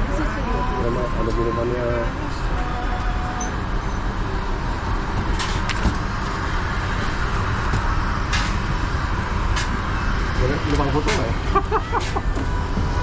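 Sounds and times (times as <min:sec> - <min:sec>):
rushing aircraft cabin noise: 0:00.0 - 0:13.0.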